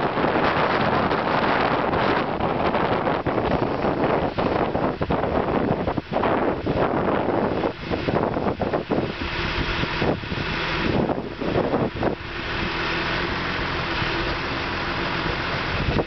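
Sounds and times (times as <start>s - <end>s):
skid steer engine running: 0.0s - 16.0s
wind buffeting microphone: 0.0s - 16.0s.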